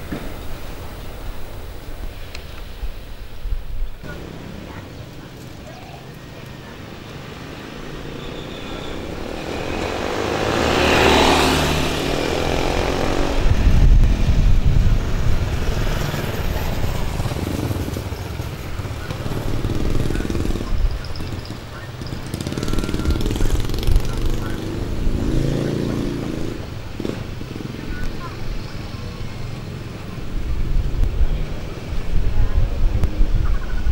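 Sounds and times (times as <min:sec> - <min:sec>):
vehicle passing: 0:04.0 - 0:33.9.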